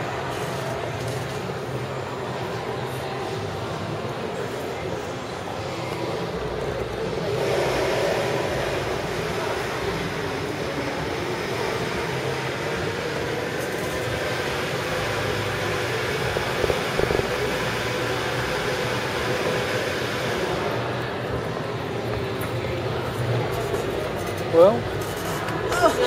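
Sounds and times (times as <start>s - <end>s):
constant hum: 0.0s - 26.0s.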